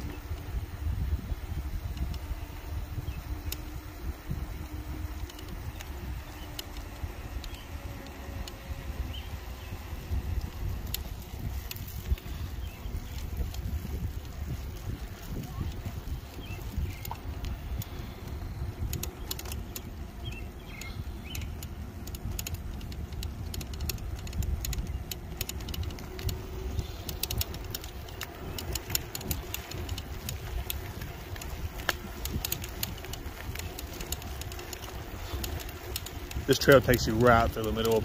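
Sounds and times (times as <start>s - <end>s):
bike rattling clicks: 0.0s - 38.0s
bike tyres rumbling on pavement: 0.0s - 38.0s
wind on microphone: 0.0s - 38.0s.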